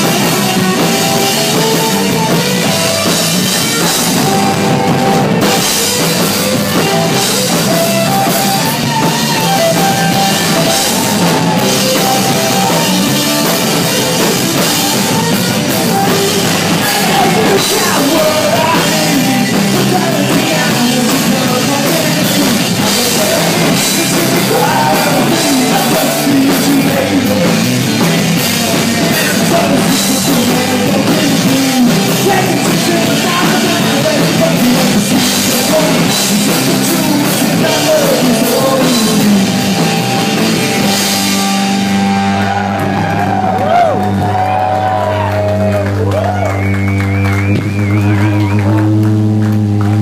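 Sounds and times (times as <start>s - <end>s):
man singing: 0.0s - 40.4s
punk rock band playing: 0.0s - 50.0s.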